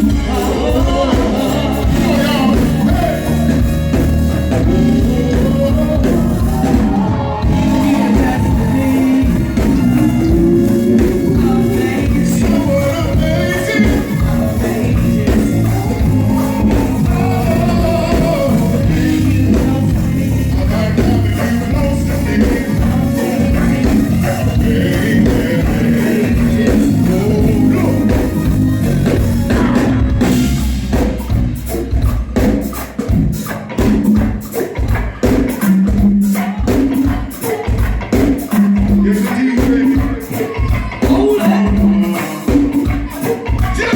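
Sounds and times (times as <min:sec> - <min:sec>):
person singing: 0:00.0 - 0:31.4, 0:33.8 - 0:43.9
live band music: 0:00.0 - 0:43.9.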